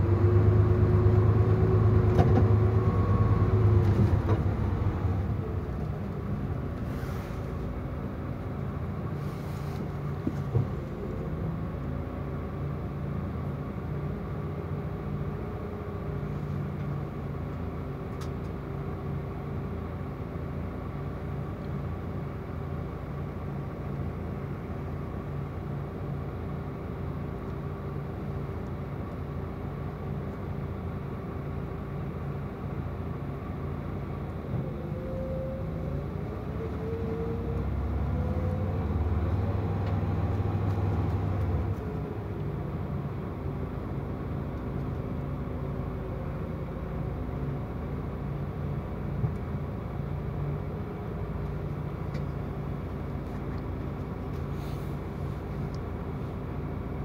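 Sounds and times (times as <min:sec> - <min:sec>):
bus engine and road drone: 0:00.0 - 0:57.0.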